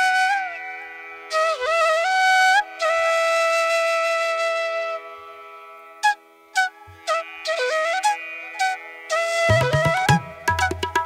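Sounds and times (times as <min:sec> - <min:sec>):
flute melody with sliding notes: 0:00.0 - 0:11.0.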